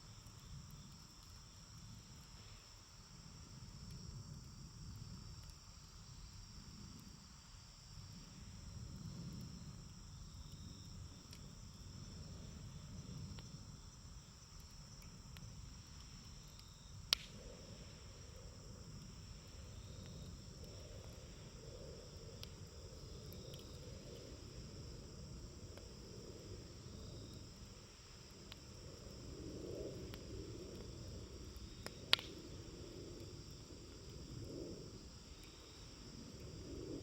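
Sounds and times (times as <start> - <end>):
campfire burning and popping: 0.0 - 37.0
crickets chirring: 0.0 - 37.0.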